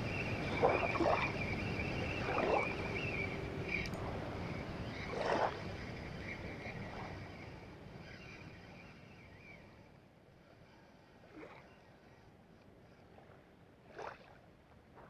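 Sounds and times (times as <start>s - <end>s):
small waves lapping: 0.0s - 9.9s, 10.6s - 15.0s.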